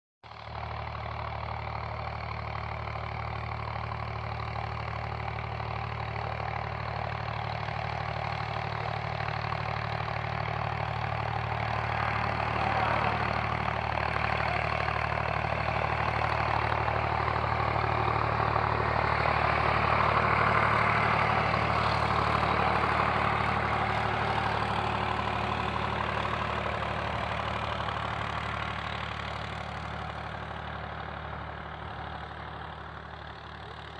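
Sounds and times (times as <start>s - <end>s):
engine humming: 1.4s - 33.9s.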